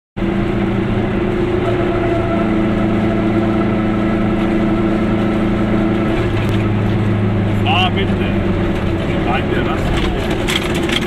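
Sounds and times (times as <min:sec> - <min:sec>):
two-stroke car engine drone: 0:00.2 - 0:11.0
tyre and road noise: 0:00.2 - 0:11.0.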